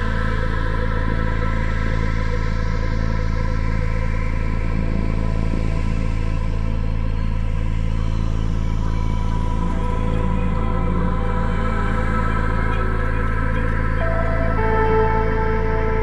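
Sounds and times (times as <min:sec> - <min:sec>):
dark ambient drone music: 0:00.0 - 0:16.0.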